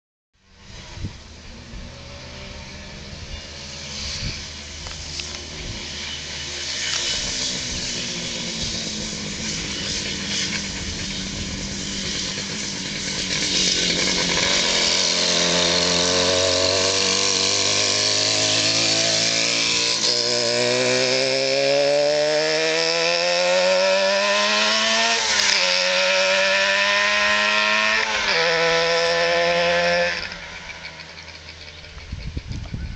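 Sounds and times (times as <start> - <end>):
two-stroke motorcycle engine: 1.4 - 32.9.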